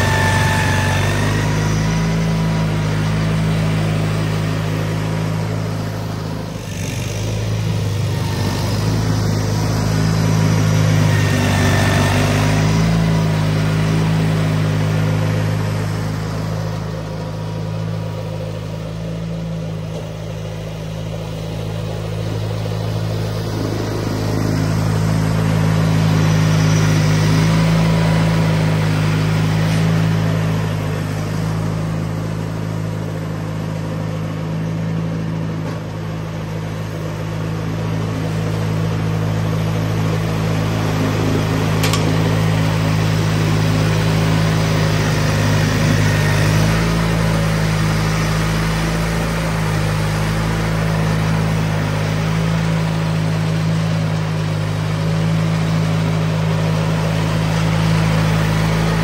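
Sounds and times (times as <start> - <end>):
garden tractor engine running: 0.0 - 59.0
snowblower moving through snow: 0.0 - 59.0.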